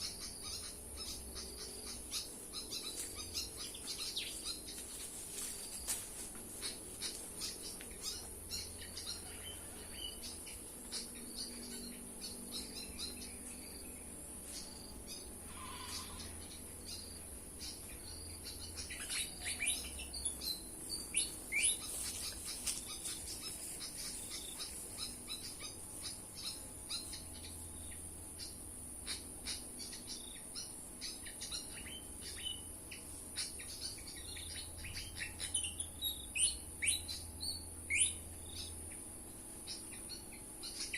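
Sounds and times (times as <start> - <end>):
high insect drone: 0.0 - 40.9
songbird chirps: 0.0 - 40.9.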